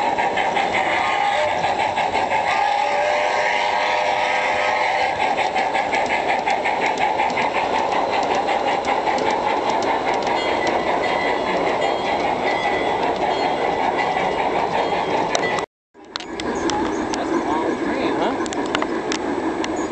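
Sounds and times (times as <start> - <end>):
model train wheels clicking: 0.0 - 19.9
train running rumble: 0.0 - 19.9.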